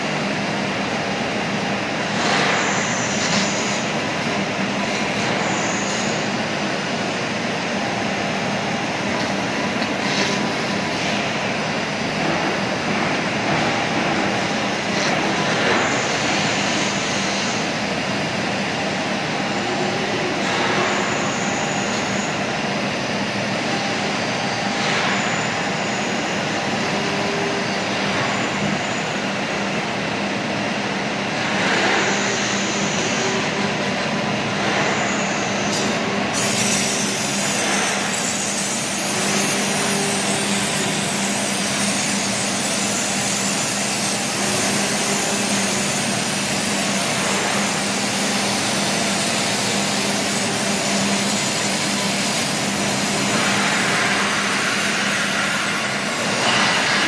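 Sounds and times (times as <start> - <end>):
router machining noise: 1.2 - 29.2, 31.4 - 57.0.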